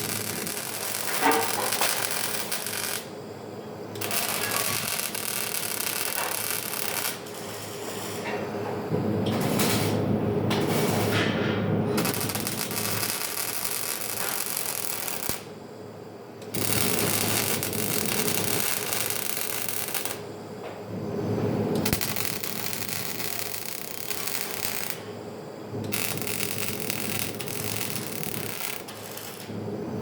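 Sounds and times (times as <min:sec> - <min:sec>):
welding arc crackling: 0:00.0 - 0:03.2, 0:03.9 - 0:08.2, 0:09.2 - 0:11.3, 0:11.9 - 0:15.6, 0:16.4 - 0:20.3, 0:21.8 - 0:25.2, 0:25.8 - 0:29.6
steady low hum: 0:00.0 - 0:13.6, 0:14.5 - 0:30.0.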